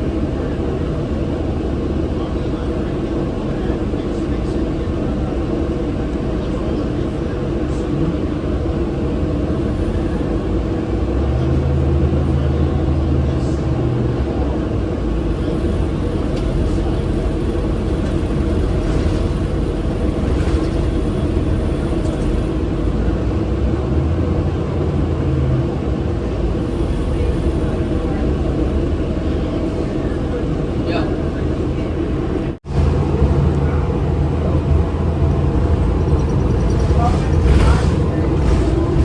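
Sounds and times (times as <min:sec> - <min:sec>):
bus engine rumble: 0:00.0 - 0:39.0.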